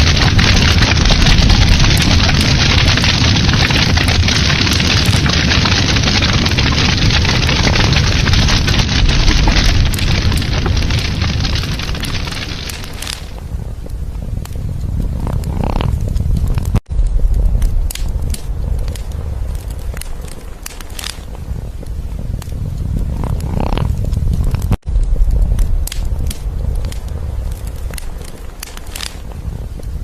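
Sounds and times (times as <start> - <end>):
fire crackling and popping: 0.0 - 30.0
low rumble of flames: 0.0 - 30.0.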